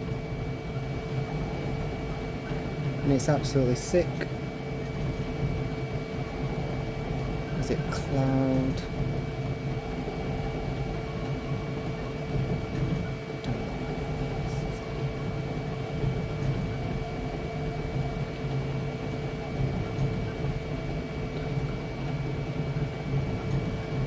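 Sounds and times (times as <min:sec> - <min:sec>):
printer machine hum: 0:00.0 - 0:24.0.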